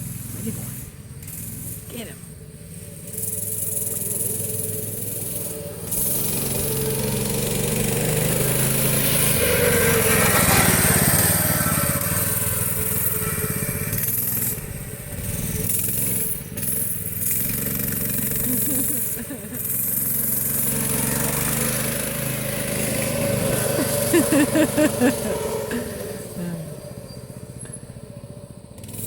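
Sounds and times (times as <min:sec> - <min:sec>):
mini bike engine running: 0:00.0 - 0:29.0.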